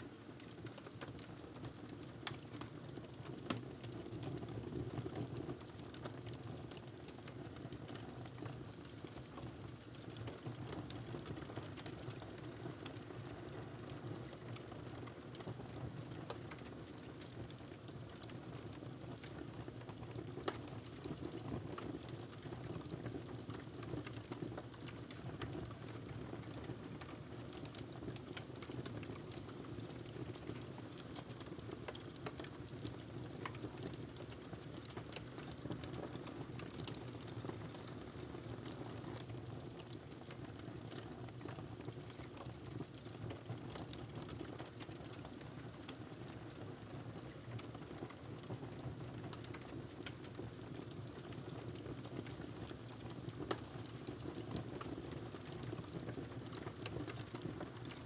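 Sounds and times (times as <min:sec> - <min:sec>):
wood fire crackling: 0:10.0 - 0:58.0.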